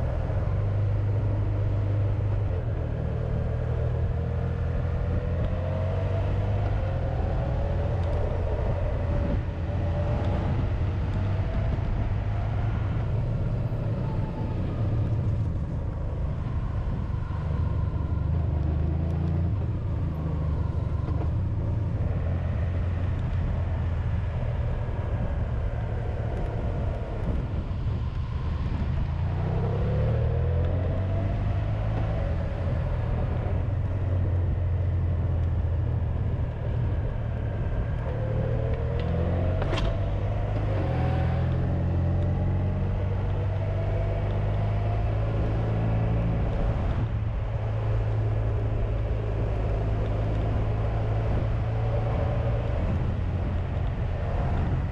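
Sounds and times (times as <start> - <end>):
wind noise: 0.0 - 54.9.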